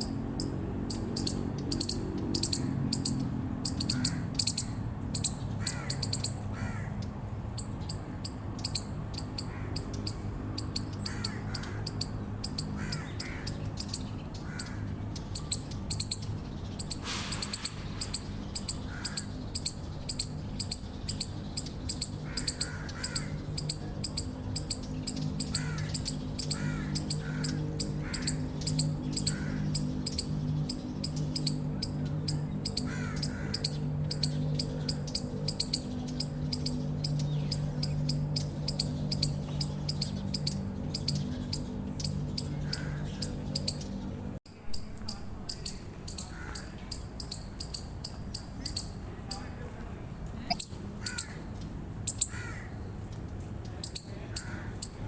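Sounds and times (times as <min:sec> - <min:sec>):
chipmunk chirping: 0:00.0 - 0:06.5, 0:07.6 - 0:44.0, 0:44.6 - 0:49.5, 0:50.4 - 0:52.6, 0:53.7 - 0:55.0.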